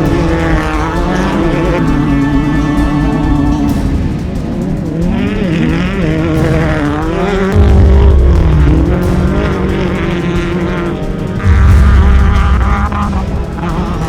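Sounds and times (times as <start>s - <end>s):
heavy low rumble: 0.0s - 14.0s
race vehicle engines revving: 0.0s - 14.0s.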